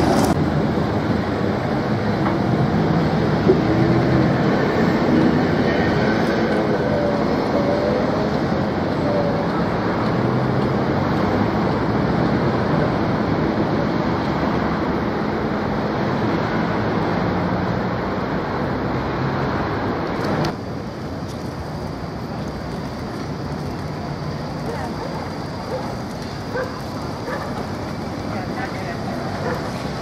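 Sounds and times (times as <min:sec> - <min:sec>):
street traffic noise: 0:00.0 - 0:30.0
tram rumbling on rails: 0:00.0 - 0:30.0.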